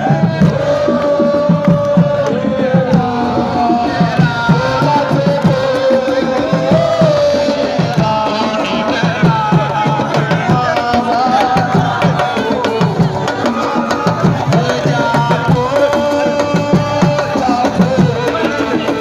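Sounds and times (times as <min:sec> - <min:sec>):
hand drums playing: 0:00.0 - 0:19.0
voices singing: 0:00.0 - 0:19.0.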